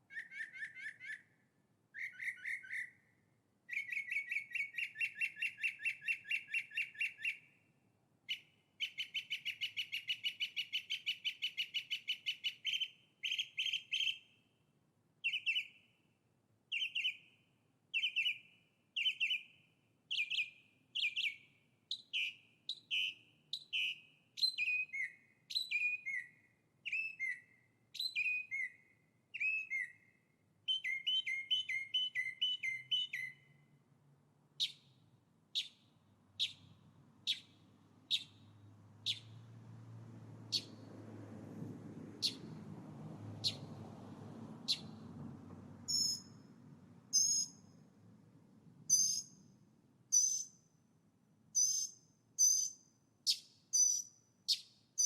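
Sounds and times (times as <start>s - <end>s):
songbird singing: 0.0s - 14.6s, 15.2s - 33.8s, 34.5s - 40.9s, 42.2s - 42.7s, 43.3s - 43.9s, 44.6s - 45.2s, 45.8s - 46.5s, 47.1s - 47.8s, 48.9s - 50.8s, 51.5s - 55.0s.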